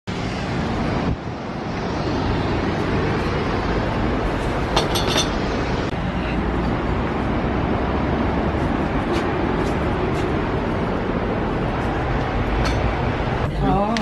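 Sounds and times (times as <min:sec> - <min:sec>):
street traffic rumble: 0:00.1 - 0:14.0.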